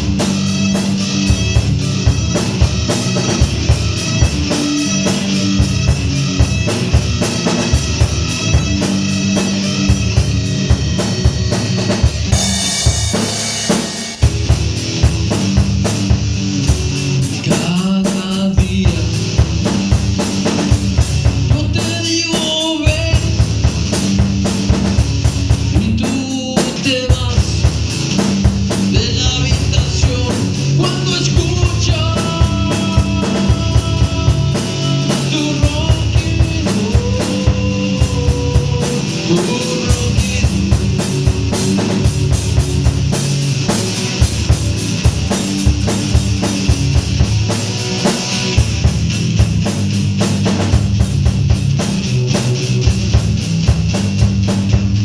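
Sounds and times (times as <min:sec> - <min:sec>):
drum kit fast beat: 0:00.0 - 0:55.0
heavy metal song: 0:00.0 - 0:55.0.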